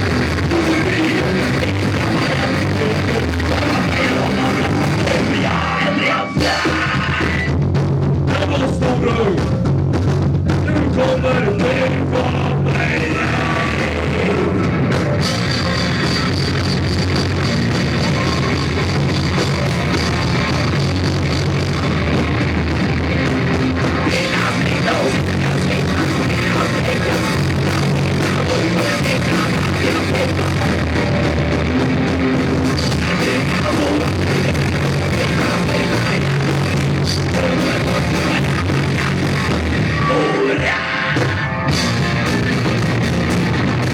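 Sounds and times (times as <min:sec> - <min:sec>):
punk rock band playing live: 0:00.0 - 0:43.9.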